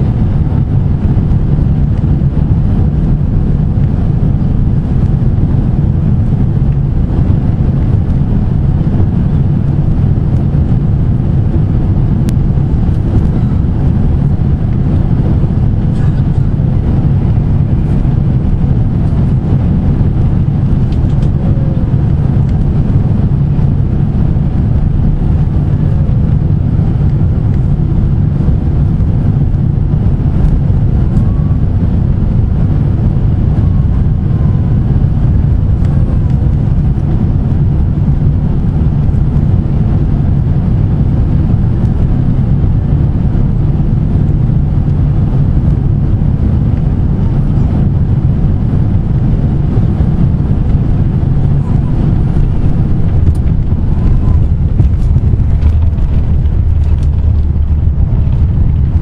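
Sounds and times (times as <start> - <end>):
airliner engines and airflow rumble: 0.0 - 59.0.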